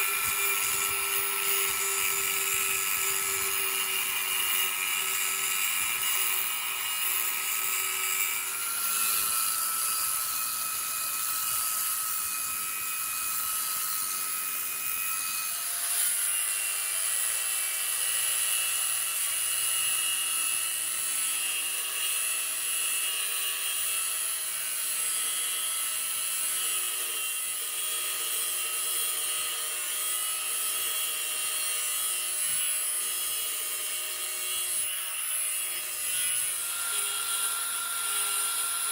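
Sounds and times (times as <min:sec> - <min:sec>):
rotary power tool whining: 0:00.0 - 0:38.9.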